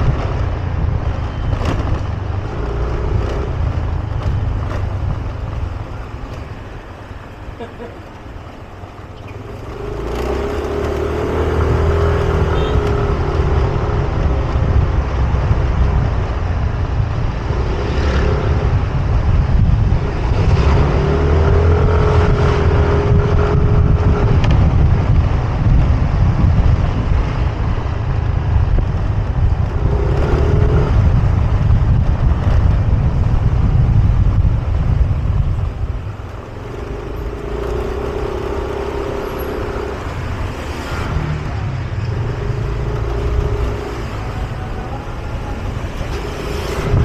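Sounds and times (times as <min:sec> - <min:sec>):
wind and road rumble: 0:00.0 - 0:47.0.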